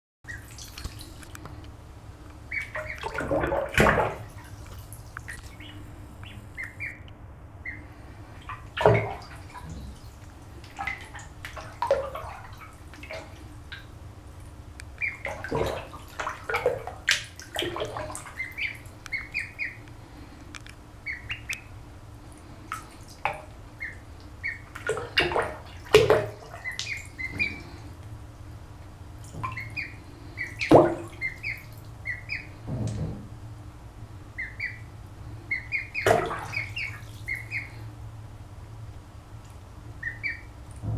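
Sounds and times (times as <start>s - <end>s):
ducklings peeping: 0.3s - 1.7s, 2.3s - 28.0s, 29.2s - 32.9s, 34.2s - 38.0s, 39.9s - 40.9s.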